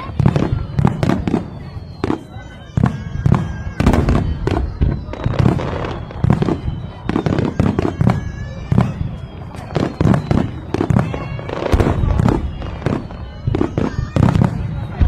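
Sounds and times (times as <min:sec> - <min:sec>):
loud firework bangs: 0:00.0 - 0:15.0
whistling firework shells: 0:00.0 - 0:15.0.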